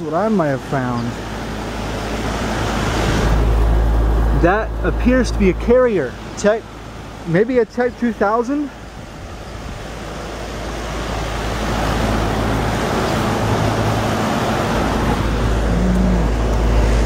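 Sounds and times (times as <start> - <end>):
air conditioner fan rushing: 0.0 - 17.0
low hum: 0.9 - 7.5, 8.7 - 17.0.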